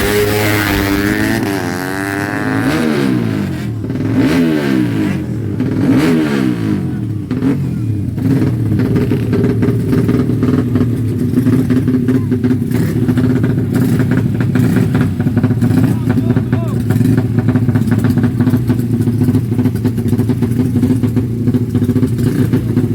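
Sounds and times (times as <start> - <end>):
motorcycle engine revving and idling: 0.0 - 22.9.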